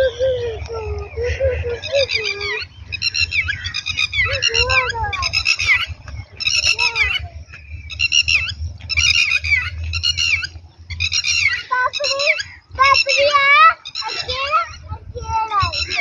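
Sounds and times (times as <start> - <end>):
wind rumbling on microphone: 0.0 - 16.0
bird shrill calls: 1.2 - 16.0.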